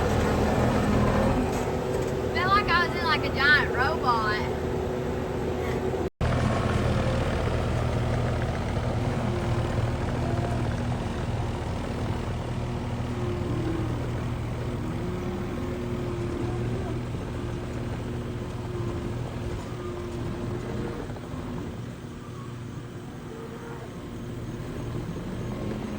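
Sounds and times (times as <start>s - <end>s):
machine engine running: 0.0s - 25.9s.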